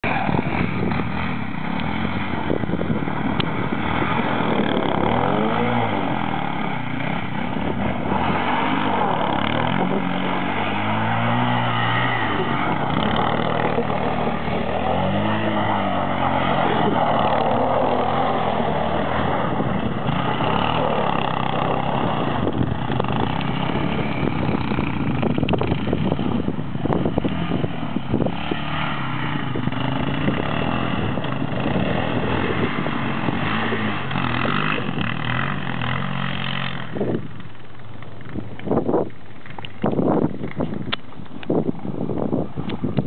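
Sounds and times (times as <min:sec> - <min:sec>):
quad bike engine revving: 0:00.0 - 0:43.0
steady rushing noise: 0:00.0 - 0:43.0.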